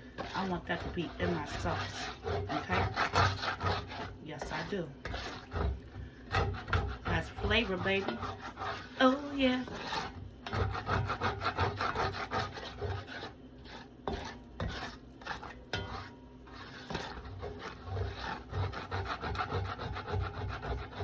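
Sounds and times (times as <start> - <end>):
utensil scraping a skillet: 0.0 - 21.0.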